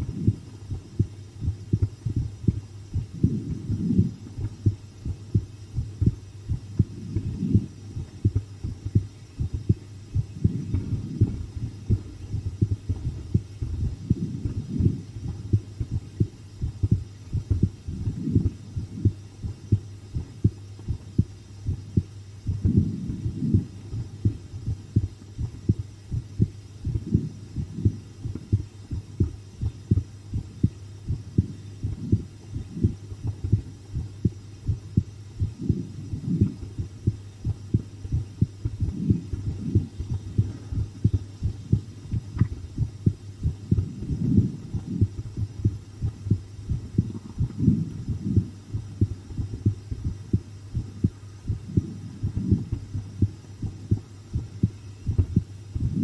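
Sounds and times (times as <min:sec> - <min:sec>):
heartbeat thumps: 0:00.0 - 0:56.0
low steady hum: 0:00.0 - 0:56.0.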